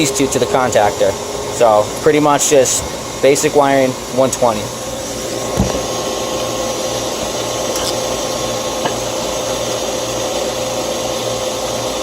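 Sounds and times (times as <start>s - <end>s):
machine drone with whine: 0.0s - 12.0s.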